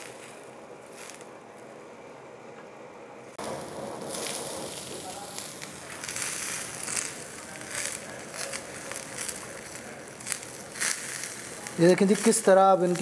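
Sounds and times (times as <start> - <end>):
chicken sizzling on hot griddle: 0.0 - 1.2, 3.4 - 13.0.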